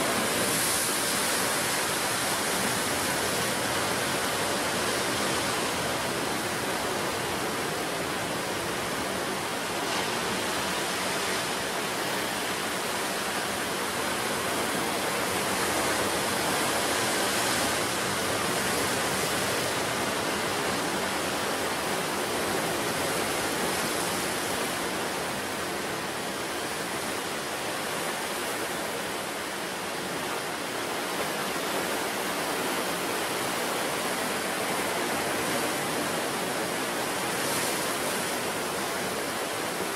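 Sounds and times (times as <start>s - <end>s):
sea surf breaking: 0.0s - 39.9s.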